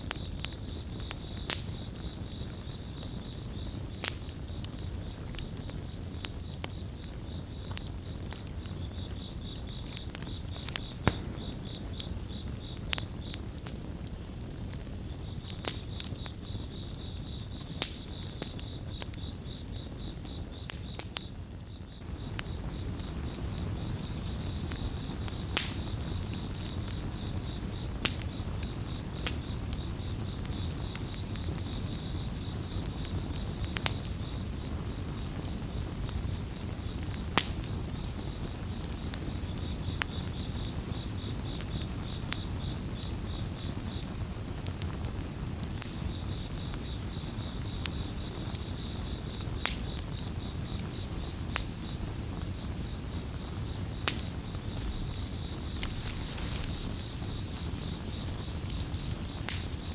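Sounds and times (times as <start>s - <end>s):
campfire crackling: 0.0s - 59.9s
cricket chirping: 0.0s - 59.9s.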